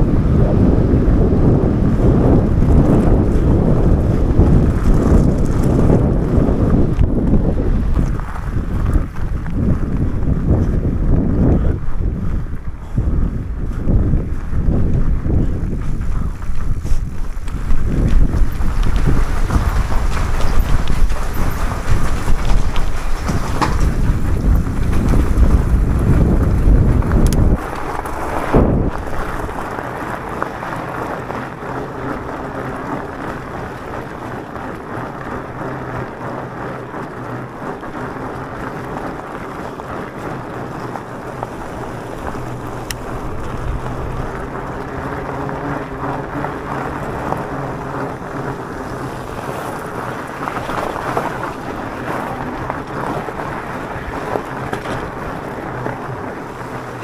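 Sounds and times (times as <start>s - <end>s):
tyres rolling over gravel: 0.0s - 57.0s
wind buffeting on microphone: 0.0s - 57.0s.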